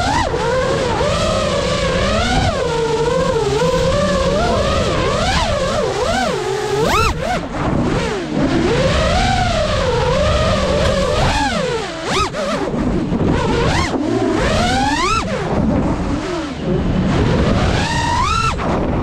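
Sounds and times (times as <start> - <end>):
quadcopter motors whining: 0.0 - 19.0
wind rumble on microphone: 0.0 - 19.0.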